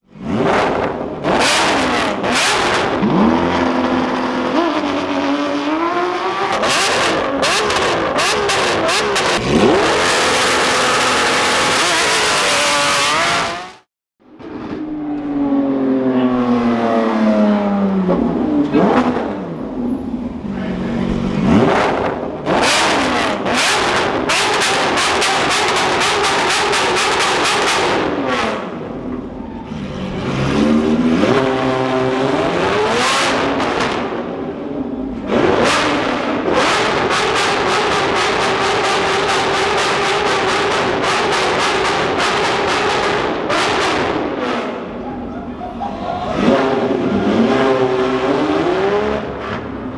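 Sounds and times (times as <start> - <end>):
sports car engine revving: 0.1 - 13.9, 15.3 - 45.2, 46.3 - 49.9.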